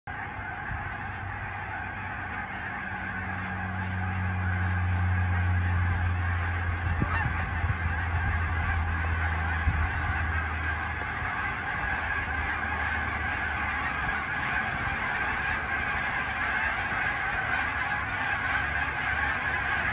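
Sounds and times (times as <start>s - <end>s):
geese honking: 0.1s - 19.9s
steady low hum: 0.1s - 19.9s.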